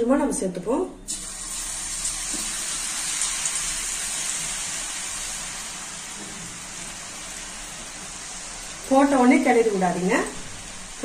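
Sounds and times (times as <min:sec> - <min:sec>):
potatoes sizzling in hot oil: 0:01.1 - 0:11.0.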